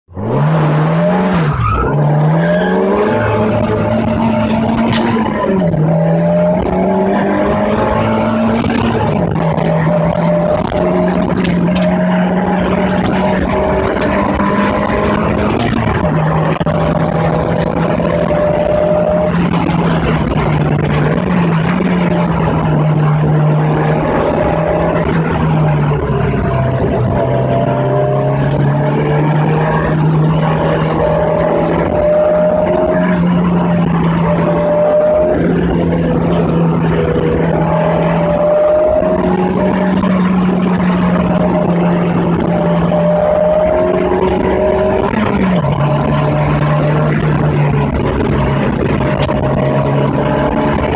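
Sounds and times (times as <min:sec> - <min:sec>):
car engine droning at high revs: 0:00.1 - 0:50.9.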